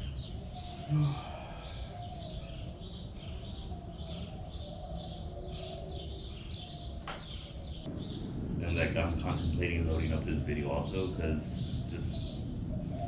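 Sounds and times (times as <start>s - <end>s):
bird chirping: 0.0s - 13.0s
faint lower bird calls: 0.0s - 13.0s.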